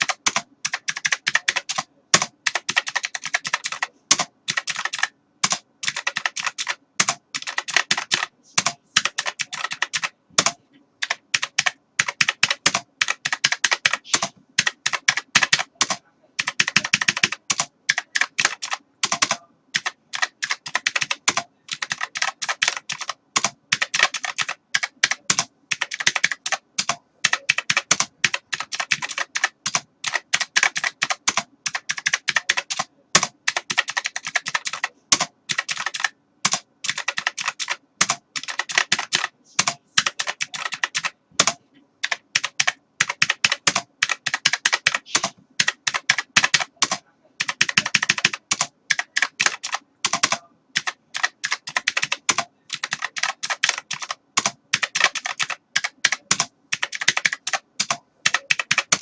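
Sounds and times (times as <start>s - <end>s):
computer keyboard typing: 0.0s - 59.0s.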